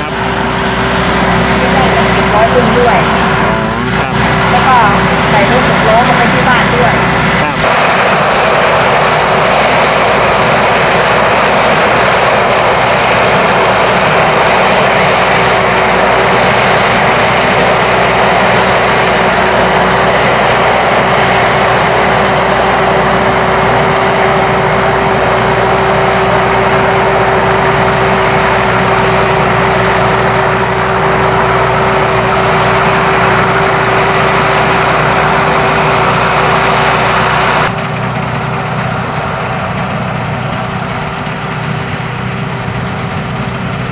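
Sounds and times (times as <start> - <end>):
combine harvester running: 0.0 - 43.9
high mechanical whine: 0.0 - 43.9.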